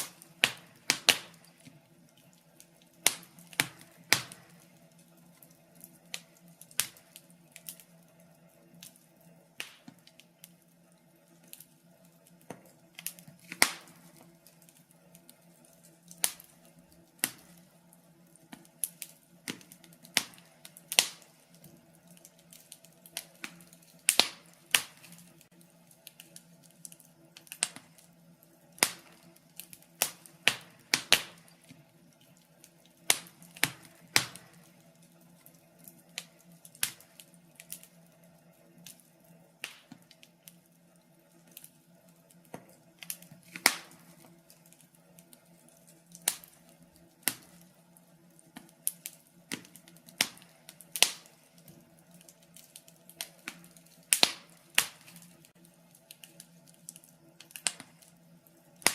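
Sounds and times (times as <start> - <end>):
log fire crackling: 0.0 - 58.9.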